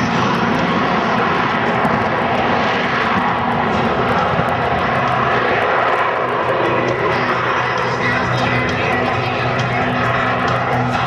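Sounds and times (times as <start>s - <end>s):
turboprop engines running: 0.0s - 11.0s.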